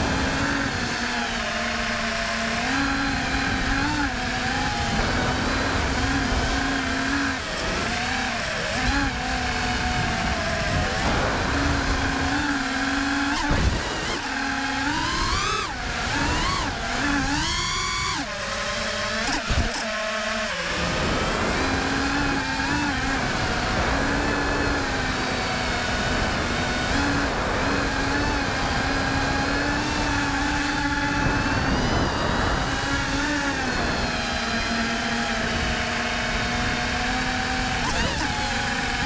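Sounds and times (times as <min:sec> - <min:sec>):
quadcopter motors whining: 0:00.0 - 0:39.0
rushing wind: 0:00.0 - 0:39.0.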